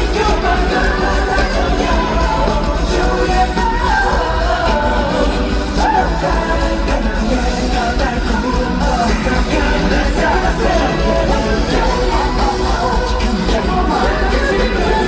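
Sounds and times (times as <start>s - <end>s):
live pop music with band: 0.0s - 15.0s
person singing: 0.0s - 15.0s.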